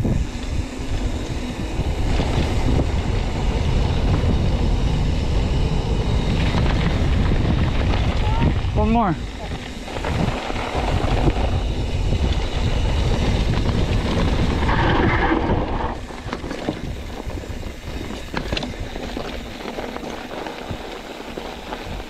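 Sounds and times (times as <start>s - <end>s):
bike clicks and rattles: 0.0s - 22.0s
bike tyres rumbling on dirt: 0.0s - 22.0s
wind buffeting microphone: 0.0s - 22.0s.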